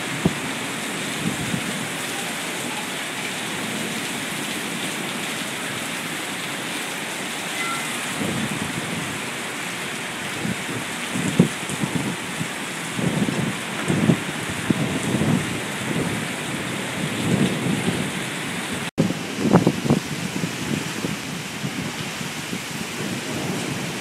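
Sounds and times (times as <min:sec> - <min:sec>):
heavy rain on pavement: 0:00.0 - 0:24.0.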